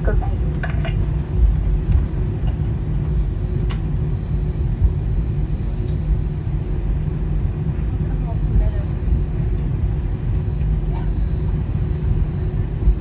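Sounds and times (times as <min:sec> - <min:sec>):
airliner cabin rumble: 0:00.0 - 0:13.0
faint constant hum: 0:00.0 - 0:13.0.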